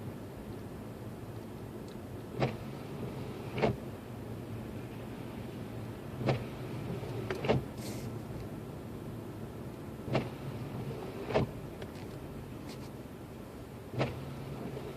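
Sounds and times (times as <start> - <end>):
car engine and road hum: 0.0 - 14.9.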